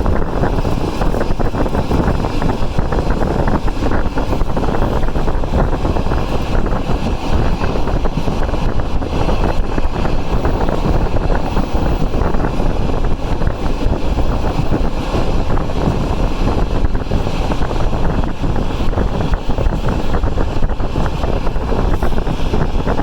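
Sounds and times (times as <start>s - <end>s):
train wheels rumbling on rails: 0.0s - 23.0s
wind buffeting microphone: 0.0s - 23.0s.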